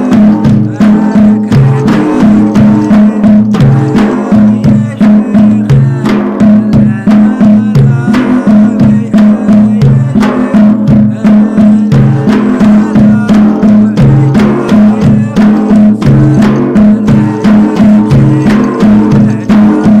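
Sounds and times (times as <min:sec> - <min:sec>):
drums beating: 0:00.0 - 0:20.0
men chanting in unison: 0:00.0 - 0:20.0.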